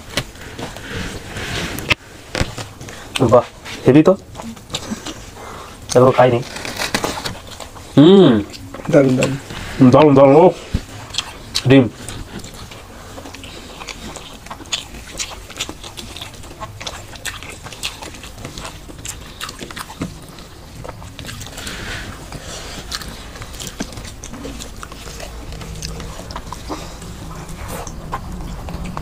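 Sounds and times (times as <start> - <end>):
people chewing with lip smacks: 0.0 - 29.0.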